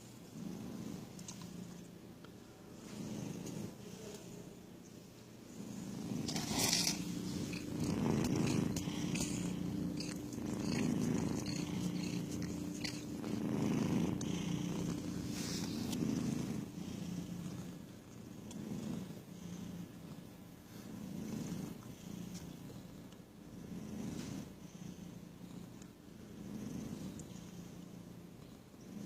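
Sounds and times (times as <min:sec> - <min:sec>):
cat purring: 0:00.2 - 0:29.0.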